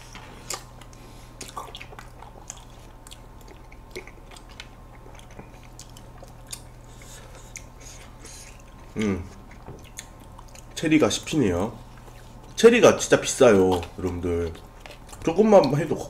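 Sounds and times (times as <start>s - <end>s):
faint low hum: 0.0s - 16.0s
chewing and biting: 0.2s - 16.0s.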